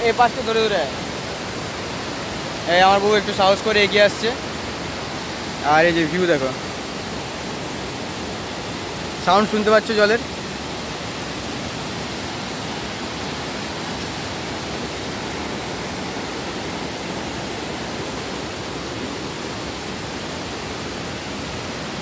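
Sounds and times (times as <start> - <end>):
stream rushing over boulders: 0.0 - 22.0.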